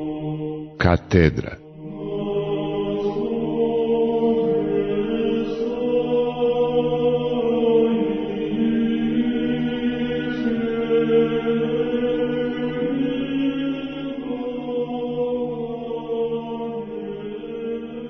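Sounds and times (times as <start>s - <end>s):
church chant: 0.0s - 18.0s.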